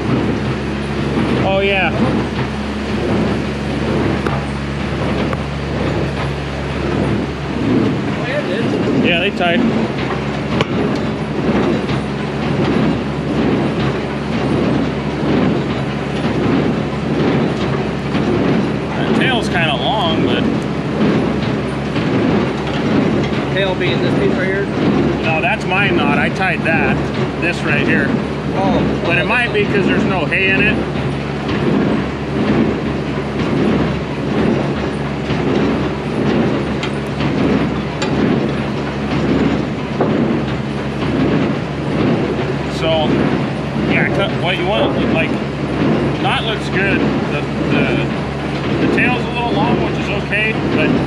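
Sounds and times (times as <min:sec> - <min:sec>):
baler mechanical clatter: 0:00.0 - 0:51.0
tractor engine drone: 0:00.0 - 0:51.0.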